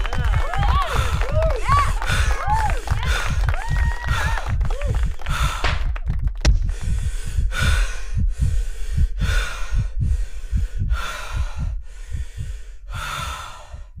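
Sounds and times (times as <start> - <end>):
low thumps: 0.0 - 14.0
person breathing hard: 0.6 - 6.0, 6.6 - 14.0.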